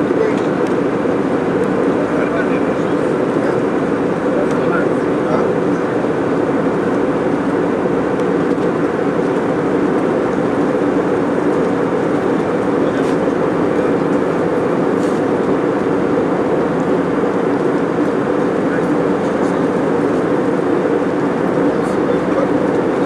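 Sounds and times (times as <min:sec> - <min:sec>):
airliner cabin jet noise: 0:00.0 - 0:23.0.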